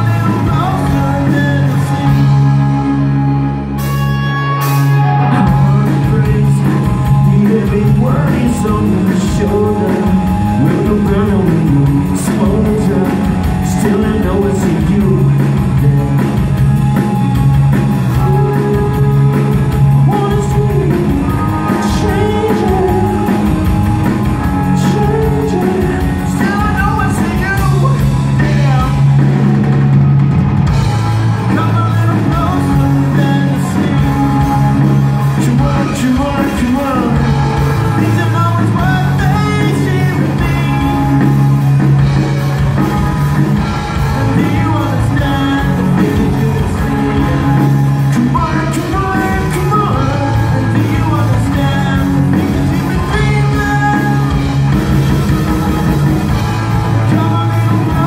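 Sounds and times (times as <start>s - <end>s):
man singing: 0.0s - 3.1s, 4.8s - 16.8s, 17.6s - 29.5s, 31.4s - 42.7s, 43.6s - 55.4s, 56.6s - 58.0s
bass guitar: 0.0s - 58.0s
drum kit: 0.0s - 58.0s
electric guitars: 0.0s - 58.0s.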